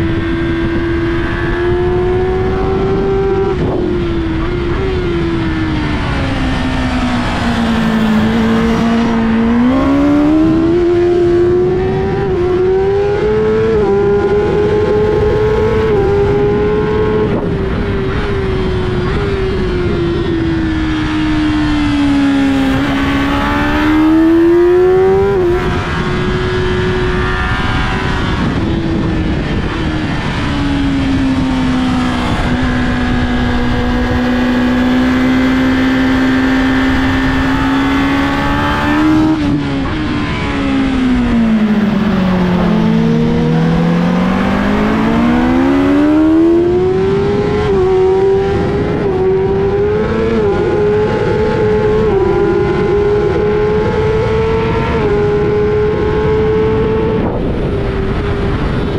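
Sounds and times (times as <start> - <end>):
racing motorcycle engine revving: 0.0 - 58.9
wind rush: 0.0 - 58.9.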